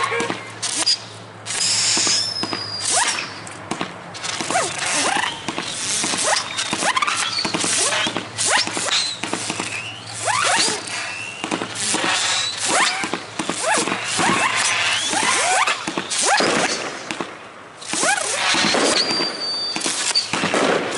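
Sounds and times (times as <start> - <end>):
fireworks popping and crackling: 0.0 - 20.9
fireworks rising whistles: 0.6 - 3.5, 4.2 - 17.1, 17.8 - 20.9.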